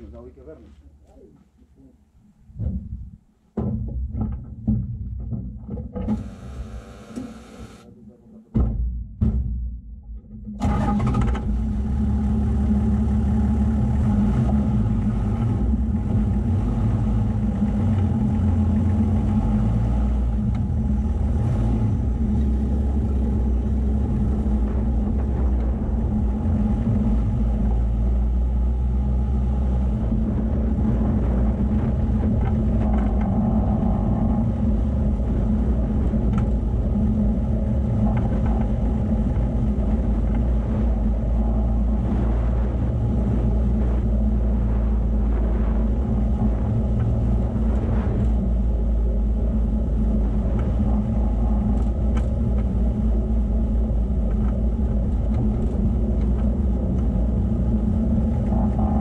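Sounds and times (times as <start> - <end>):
vehicle engine droning: 10.6 - 59.0.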